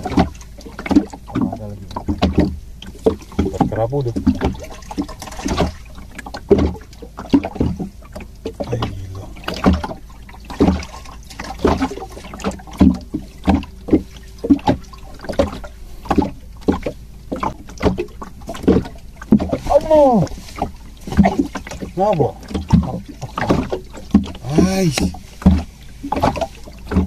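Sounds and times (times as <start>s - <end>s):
water slapping against hull: 0.0s - 27.0s.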